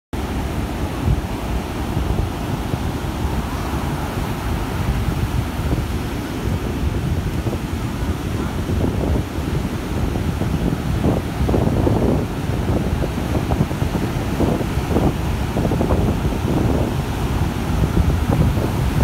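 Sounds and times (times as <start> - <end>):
ocean surf breaking: 0.2 - 19.0
wind buffeting microphone: 0.2 - 19.0.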